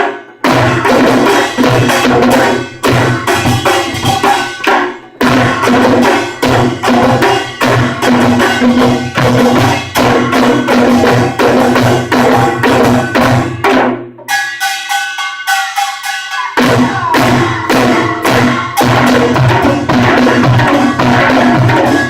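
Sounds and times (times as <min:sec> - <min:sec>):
percussion band drums and gongs: 0:00.0 - 0:22.0.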